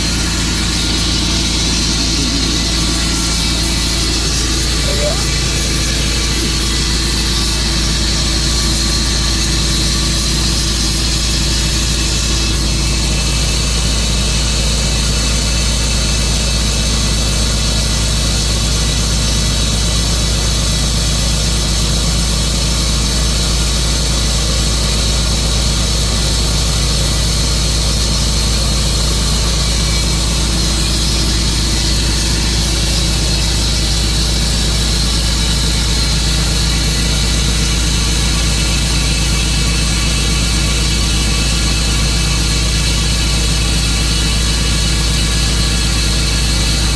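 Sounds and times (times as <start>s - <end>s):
sawmill gasoline engine running: 0.0s - 46.9s.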